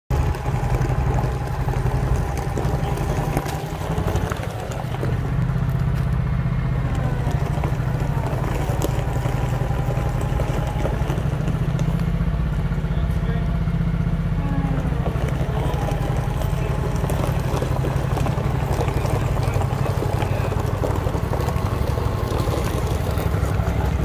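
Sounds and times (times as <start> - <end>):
boat engine running: 0.1 - 24.0
wheels on gravel: 0.1 - 24.0.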